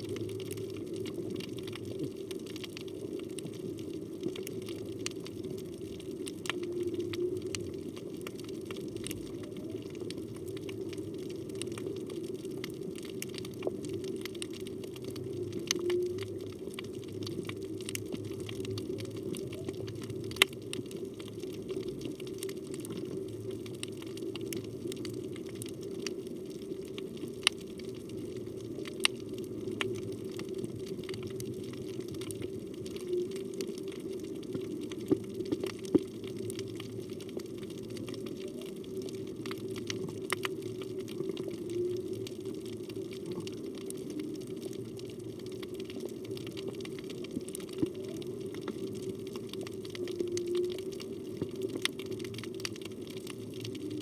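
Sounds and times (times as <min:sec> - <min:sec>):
underwater hum and hiss: 0:00.0 - 0:54.0.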